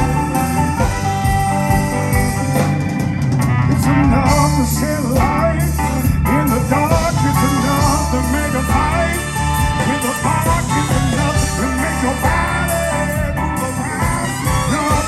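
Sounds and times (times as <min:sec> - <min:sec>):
bending guitar lead line: 0:00.0 - 0:15.0
blues band playing: 0:00.0 - 0:15.0.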